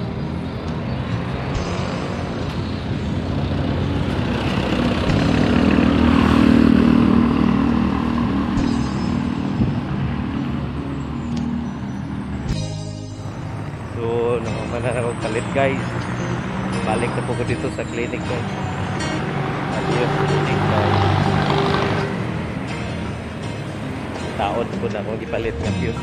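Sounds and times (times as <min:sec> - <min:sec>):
vehicle engine passing by: 0:00.0 - 0:26.0.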